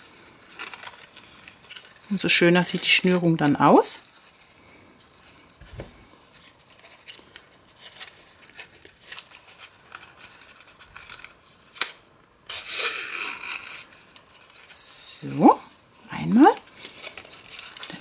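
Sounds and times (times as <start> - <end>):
paper rustling and rubbing: 0.0 - 14.8, 16.2 - 18.0.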